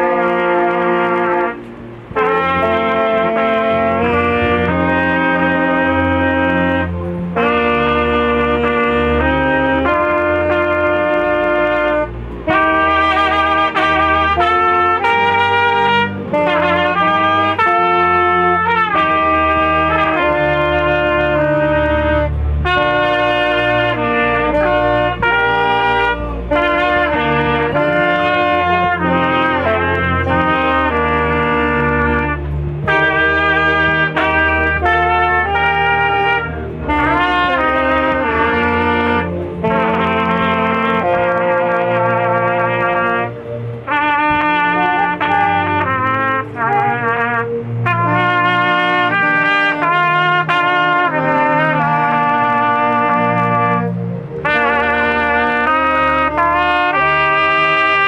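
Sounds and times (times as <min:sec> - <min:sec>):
brass melody: 0:00.0 - 0:58.0
continuous bass line: 0:00.0 - 0:58.0.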